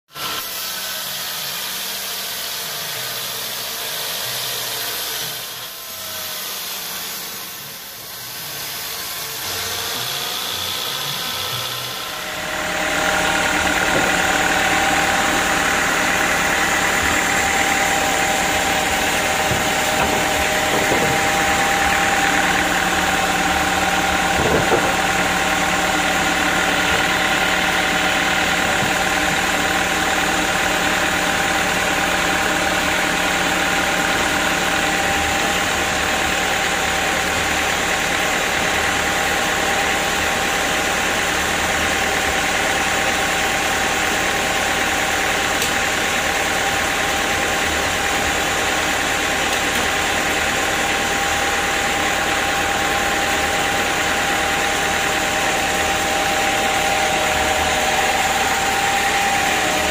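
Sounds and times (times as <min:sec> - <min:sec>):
band sawmill cutting log: 0:00.1 - 0:59.9
machine running: 0:07.6 - 0:59.9.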